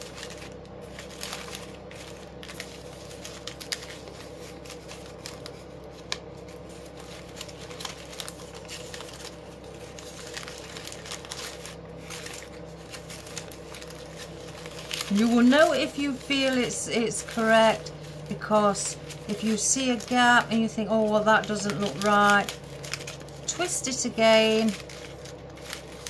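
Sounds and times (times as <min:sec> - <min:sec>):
plastic ribbon crinkling: 0:00.0 - 0:26.0
steady low hum: 0:00.0 - 0:26.0.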